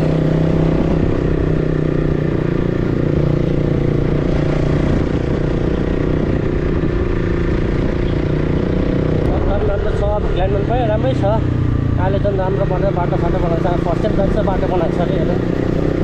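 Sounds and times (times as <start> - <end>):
motorcycle engine running: 0.0 - 16.0
wind and road rumble: 0.0 - 16.0.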